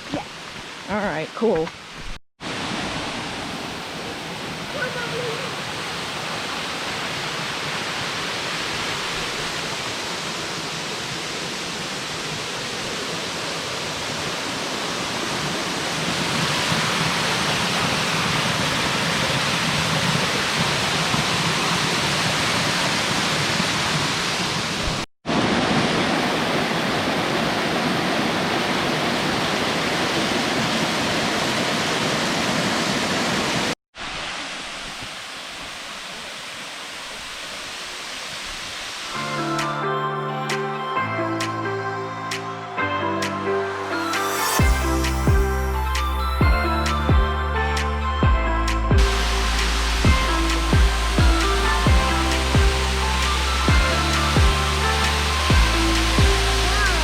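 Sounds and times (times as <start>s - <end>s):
waterfall rushing water: 0.1s - 57.0s.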